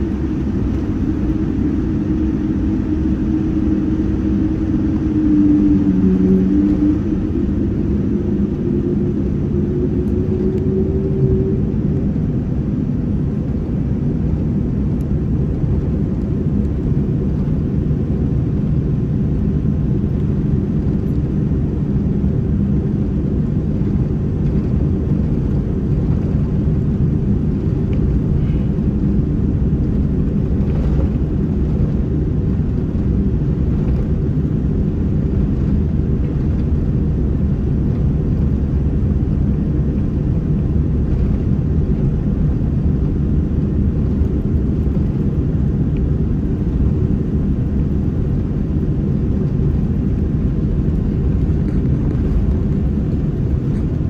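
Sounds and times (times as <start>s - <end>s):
jet engines deep rumble: 0.0s - 54.0s.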